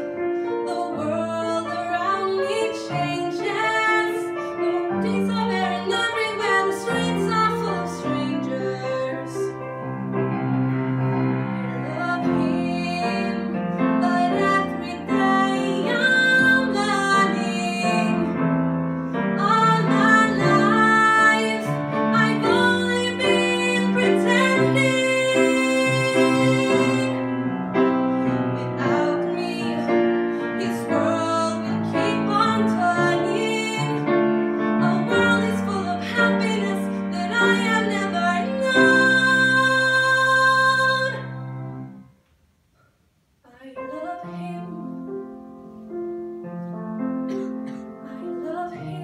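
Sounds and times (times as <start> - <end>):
piano accompaniment: 0.0 - 42.2, 43.6 - 49.0
woman singing a slow ballad: 0.6 - 9.6, 11.6 - 18.4, 19.4 - 27.2, 28.6 - 41.4, 43.5 - 45.2, 47.3 - 49.0.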